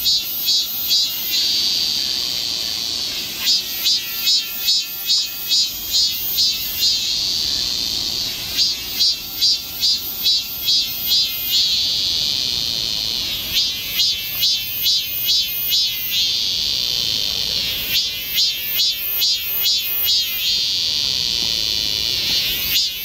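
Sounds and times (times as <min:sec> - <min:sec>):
cicadas singing: 0:00.0 - 0:23.0.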